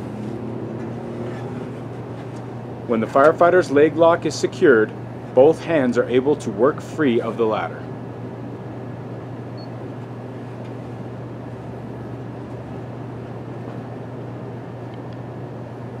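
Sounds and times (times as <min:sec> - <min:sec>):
low hum: 0:00.0 - 0:13.5.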